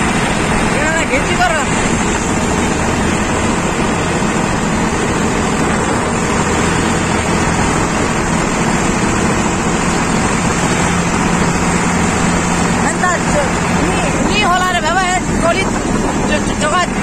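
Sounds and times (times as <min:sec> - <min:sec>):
road and wind noise: 0:00.0 - 0:17.0
tractor diesel engine running: 0:00.0 - 0:17.0.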